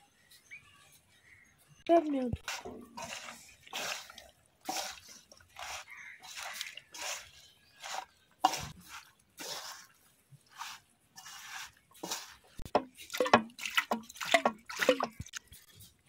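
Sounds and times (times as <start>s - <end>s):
water splashing and dripping: 2.0s - 16.0s.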